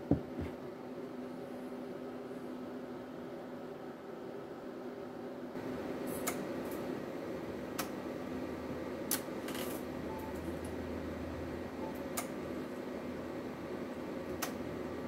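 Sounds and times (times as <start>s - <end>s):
amplifier hum and fan noise: 0.0s - 15.0s.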